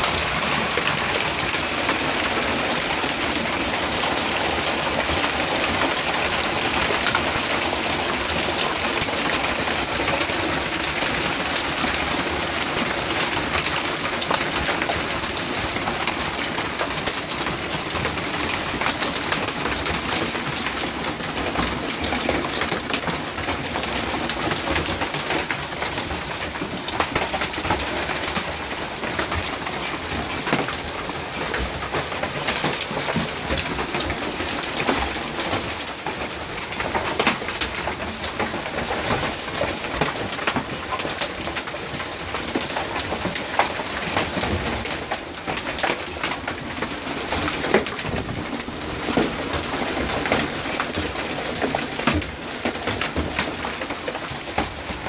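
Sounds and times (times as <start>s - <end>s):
hailstones clattering on hard surface: 0.0s - 55.0s.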